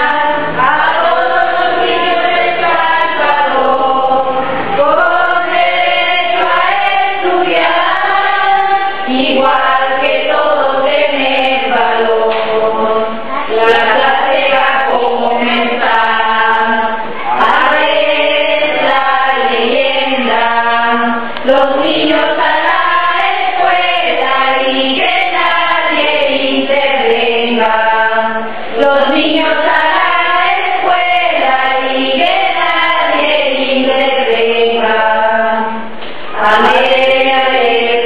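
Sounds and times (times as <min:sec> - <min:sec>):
group of voices singing: 0:00.0 - 0:38.0.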